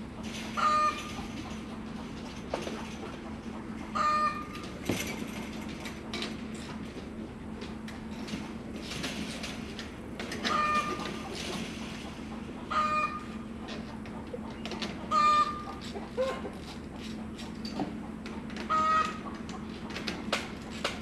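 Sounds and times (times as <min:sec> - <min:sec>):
chickens clucking: 0:00.0 - 0:07.1, 0:09.4 - 0:21.0.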